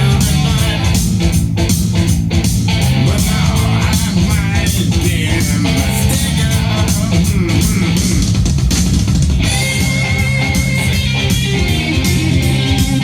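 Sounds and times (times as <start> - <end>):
country-rock instrumental from cassette: 0.0 - 13.0.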